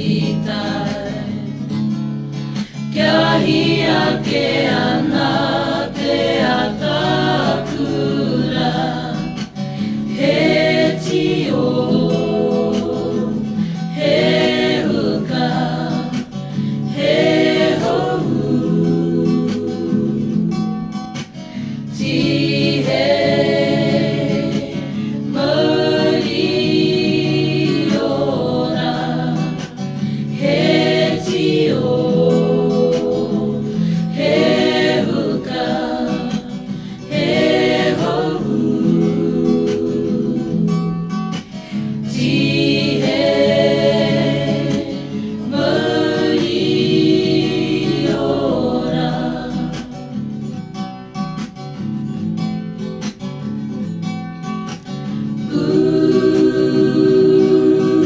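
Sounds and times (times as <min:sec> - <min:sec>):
choir singing: 0:00.0 - 0:01.9, 0:02.6 - 0:50.2, 0:55.2 - 0:58.0
guitar accompaniment: 0:00.0 - 0:58.0.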